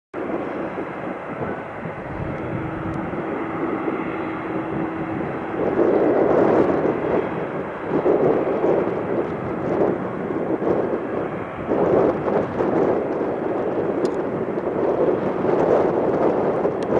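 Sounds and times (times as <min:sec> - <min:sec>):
jet engines running: 0:00.1 - 0:16.9.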